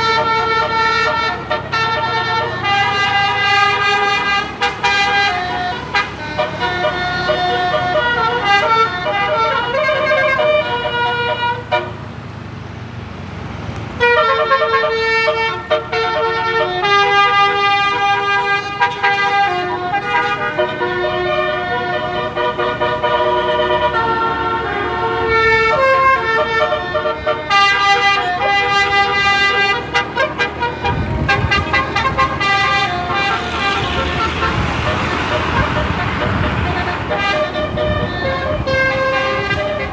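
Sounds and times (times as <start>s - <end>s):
musical air horn melody: 0.0s - 12.1s, 14.0s - 39.9s
low engine rumble: 0.0s - 39.9s.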